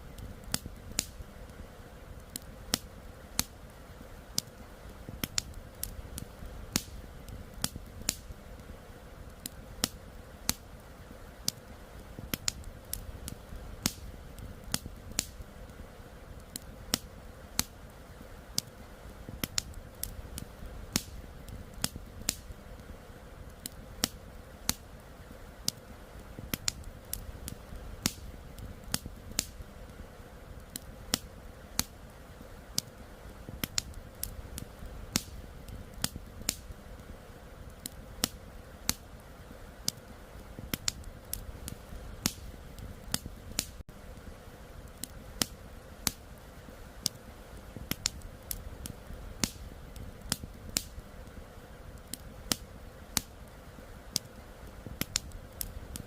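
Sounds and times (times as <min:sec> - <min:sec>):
campfire wood snapping: 0:00.1 - 0:56.0.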